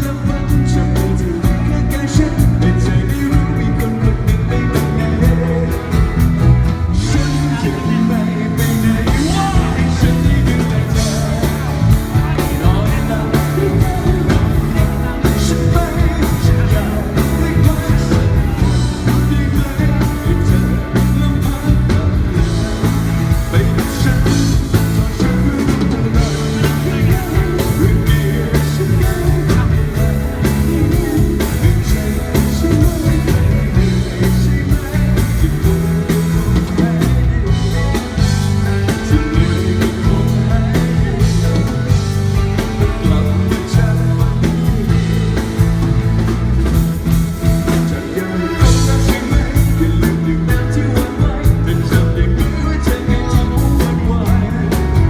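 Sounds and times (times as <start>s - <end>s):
drums keeping a steady beat: 0.0s - 55.0s
live rock band playing: 0.0s - 55.0s
person singing: 0.0s - 55.0s.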